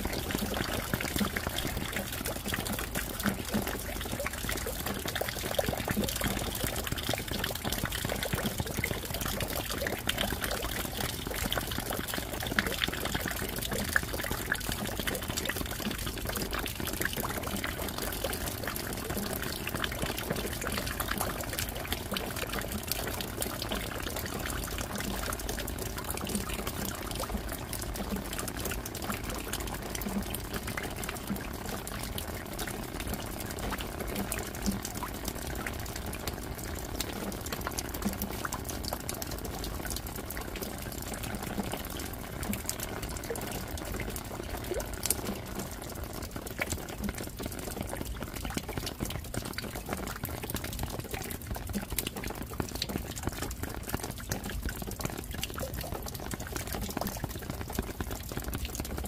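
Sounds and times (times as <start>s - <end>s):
raindrop splashes and drips: 0.0s - 59.0s.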